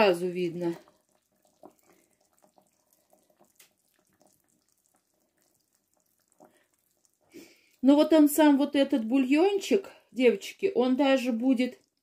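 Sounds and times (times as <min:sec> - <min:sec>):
small liquid squelches: 0:00.0 - 0:12.0.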